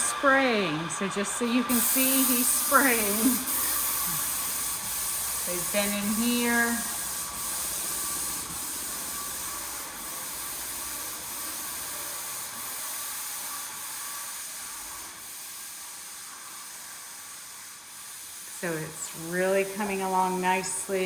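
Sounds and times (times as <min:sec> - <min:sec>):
paint sprayer hissing: 0:00.0 - 0:21.0.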